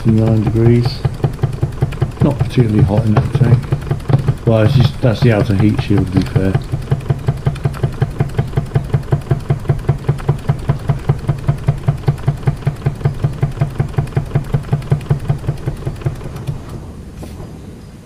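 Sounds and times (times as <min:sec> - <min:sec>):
toy steam engine chuffing: 0:00.0 - 0:17.5.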